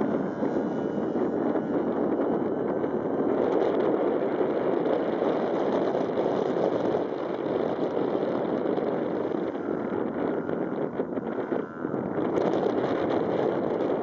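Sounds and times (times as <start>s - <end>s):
distant model plane engine drone: 0.0s - 14.0s
wind buffeting microphone: 0.0s - 14.0s.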